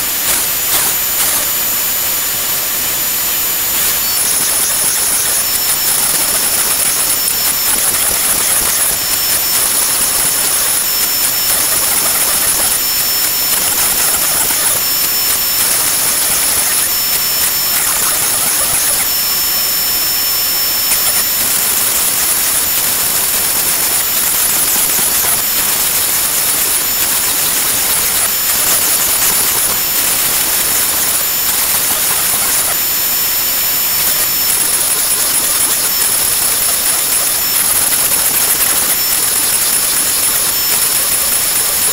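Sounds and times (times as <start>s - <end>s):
router spindle whining while cutting wood: 0.0s - 41.9s.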